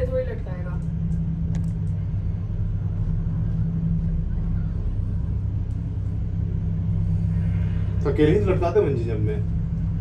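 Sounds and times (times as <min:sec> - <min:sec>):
cable car mechanical hum: 0:00.0 - 0:10.0.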